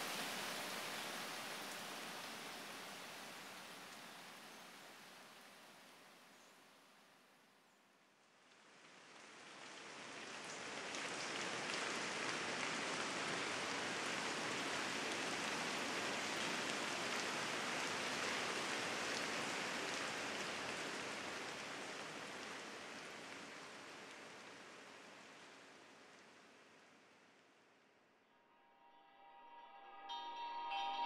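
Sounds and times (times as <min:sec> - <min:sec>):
steady rain: 0:00.0 - 0:28.3.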